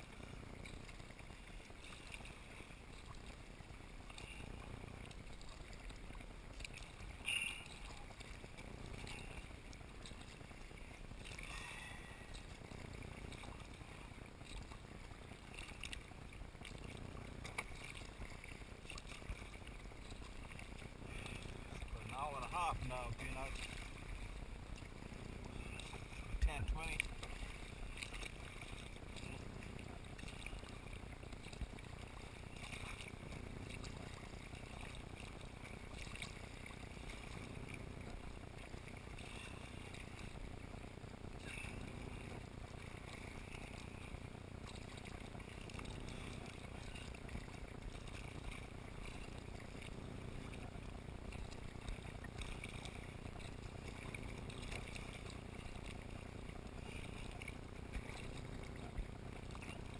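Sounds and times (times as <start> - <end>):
paddle blades dipping: 0.0 - 59.9
water splashing around kayak: 0.0 - 59.9.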